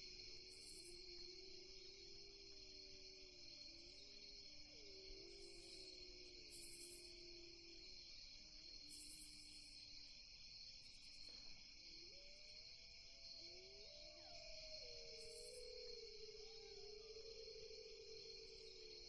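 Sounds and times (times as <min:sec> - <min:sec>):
crickets and insects chorus: 0:00.0 - 0:19.0
high cricket trills: 0:00.0 - 0:19.0.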